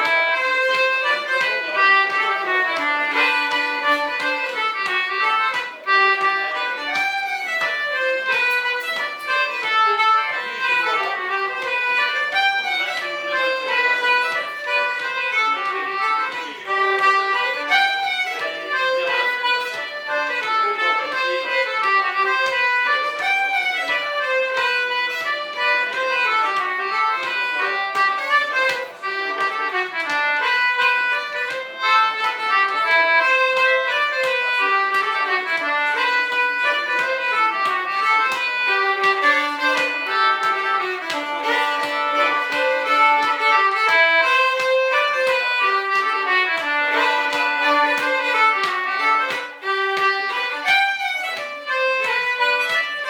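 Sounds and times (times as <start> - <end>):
fiddle playing folk tune: 0.0 - 53.0.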